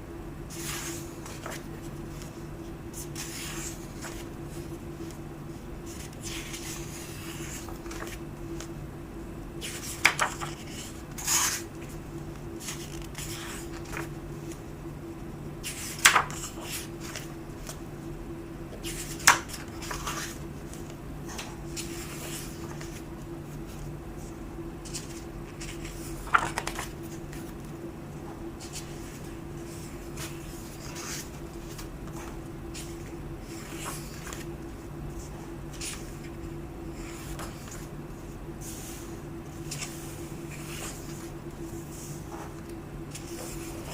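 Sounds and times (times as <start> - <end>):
book pages flipping: 0.5 - 5.2, 5.8 - 8.7, 9.6 - 14.6, 15.6 - 17.8, 18.7 - 23.1, 24.8 - 27.7, 28.6 - 34.6, 35.2 - 36.4, 37.0 - 43.9
paper handling rustles: 0.5 - 14.7, 15.6 - 18.1, 18.7 - 43.9.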